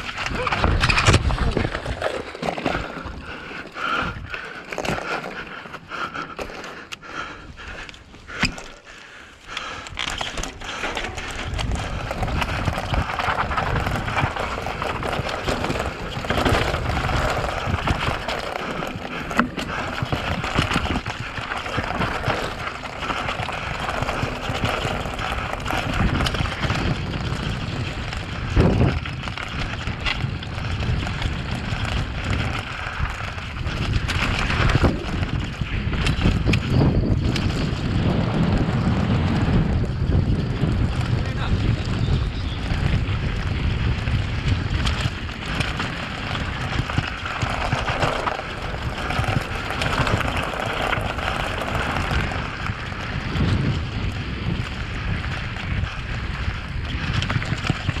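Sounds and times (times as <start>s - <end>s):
wind rushing over microphone: 0.0s - 5.5s, 9.5s - 58.0s
bike rattling over rocks: 0.0s - 58.0s.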